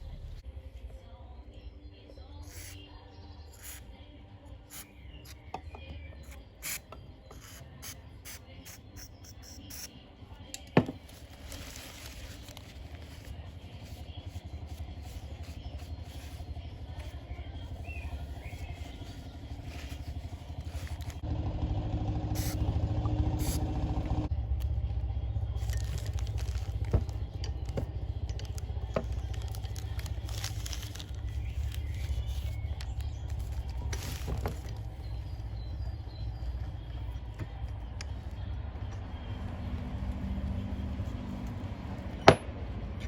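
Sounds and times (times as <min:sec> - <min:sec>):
motor running rhythmically: 0:01.8 - 0:43.0.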